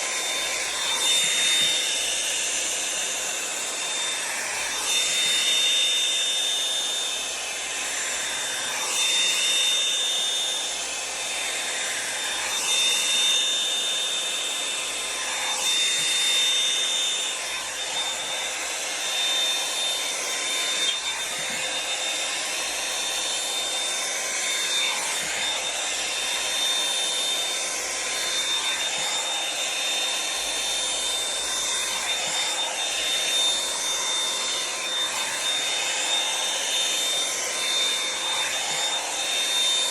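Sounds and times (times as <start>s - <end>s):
hot-air brush whining: 0.0s - 39.9s.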